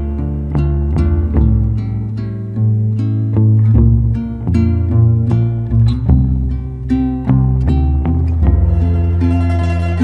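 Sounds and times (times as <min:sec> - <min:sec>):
plucked guitar notes: 0:00.0 - 0:10.0
sustained low bass notes: 0:00.0 - 0:10.0.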